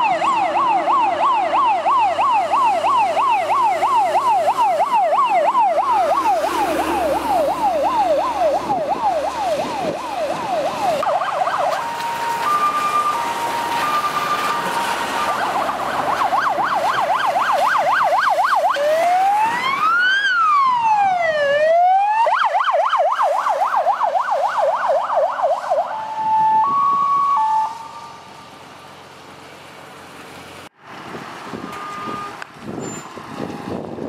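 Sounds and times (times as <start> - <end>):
electronic siren: 0.0 - 28.4
low road and wind noise: 0.0 - 34.0.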